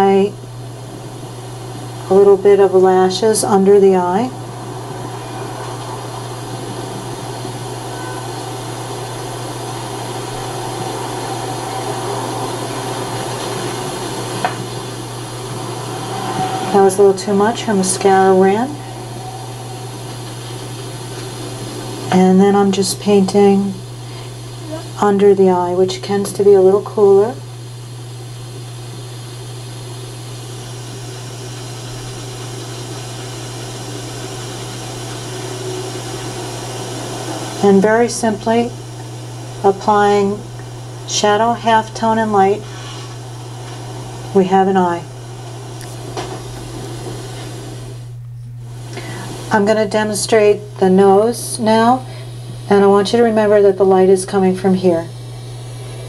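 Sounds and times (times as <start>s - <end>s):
background hiss: 0.0s - 56.0s
low hum: 0.0s - 56.0s.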